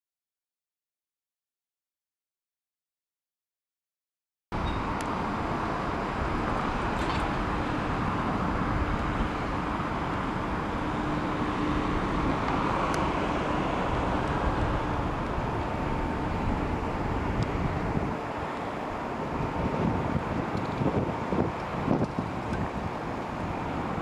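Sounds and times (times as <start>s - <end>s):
distant jet engine rumble: 4.6s - 24.0s.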